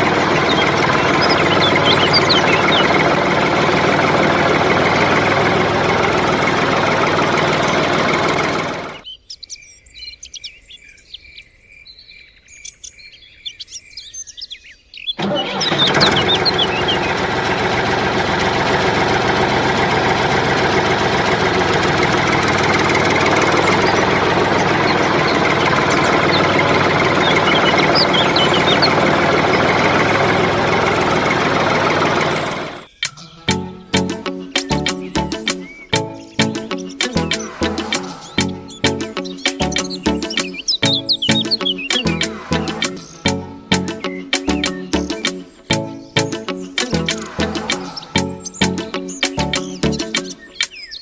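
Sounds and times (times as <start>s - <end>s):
small tractor engine running: 0.0s - 9.0s, 15.2s - 32.9s, 33.5s - 50.3s
birds chirping: 0.0s - 51.0s.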